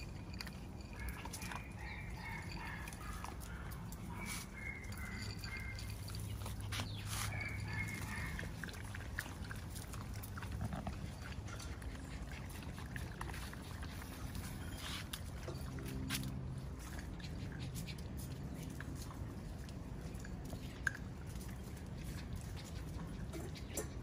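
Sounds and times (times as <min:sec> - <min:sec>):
puppies whining and yipping: 0:00.0 - 0:24.0.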